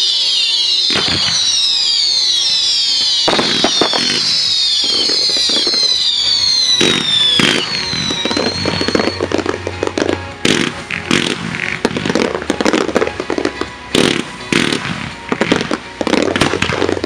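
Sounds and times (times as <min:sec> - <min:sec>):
fireworks bangs and crackle: 0:00.0 - 0:17.0
fireworks whistling: 0:00.0 - 0:17.0.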